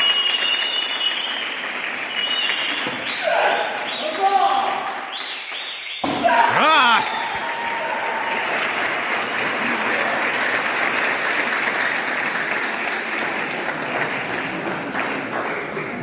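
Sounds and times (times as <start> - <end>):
audience applauding: 0.0 - 5.8, 6.5 - 16.0.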